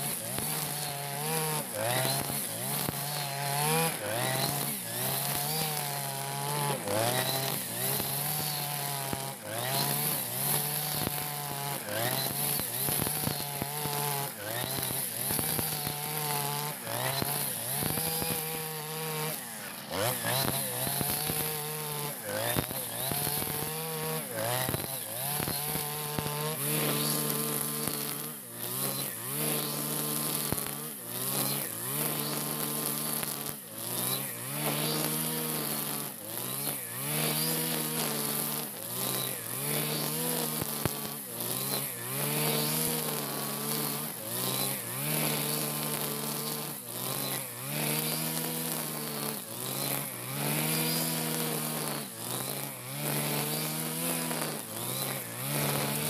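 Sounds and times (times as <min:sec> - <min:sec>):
brush cutter engine cutting grass: 0:00.0 - 0:56.0.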